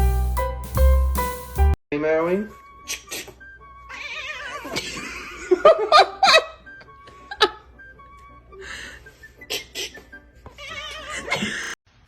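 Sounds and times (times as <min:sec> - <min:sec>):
background music: 0:00.0 - 0:11.4.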